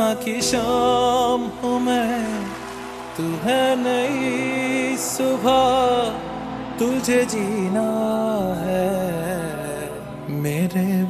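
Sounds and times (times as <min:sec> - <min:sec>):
slow soundtrack music: 0:00.0 - 0:11.0.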